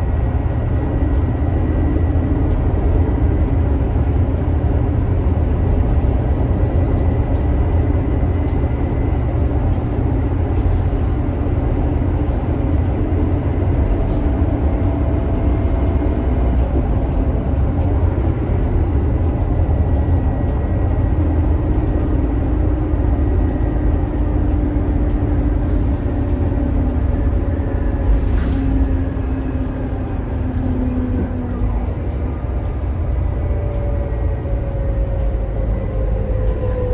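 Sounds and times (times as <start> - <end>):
bus diesel engine rumbling: 0.0 - 36.9.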